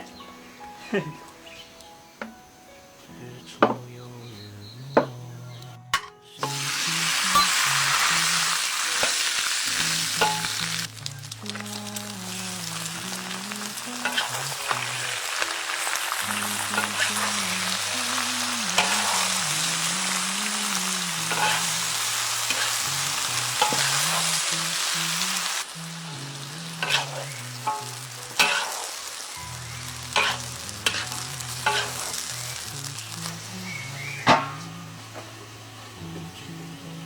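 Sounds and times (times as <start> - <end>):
food sizzling in a wok: 6.3 - 37.0.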